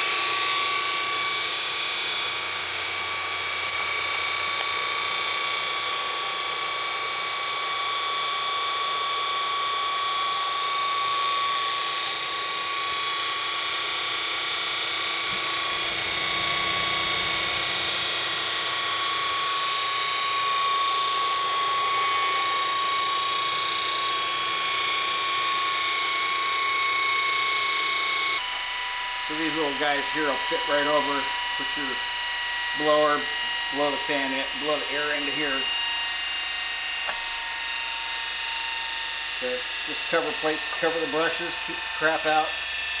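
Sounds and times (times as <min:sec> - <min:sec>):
electric motor whining: 0:00.0 - 0:43.0.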